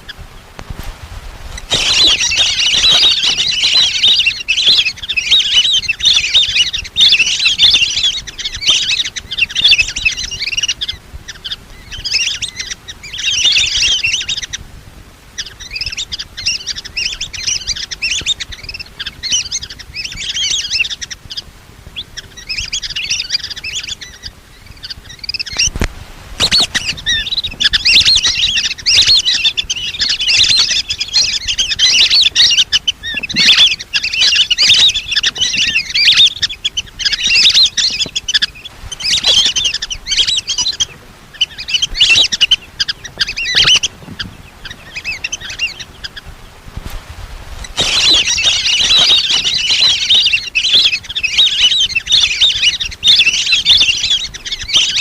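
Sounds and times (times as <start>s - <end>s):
ducks whistling chirps: 1.5s - 14.6s, 15.3s - 46.6s, 47.6s - 55.0s.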